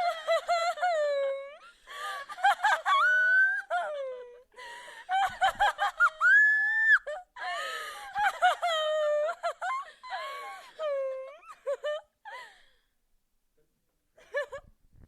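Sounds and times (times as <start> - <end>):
woman laughing maniacally: 0.0 - 12.6.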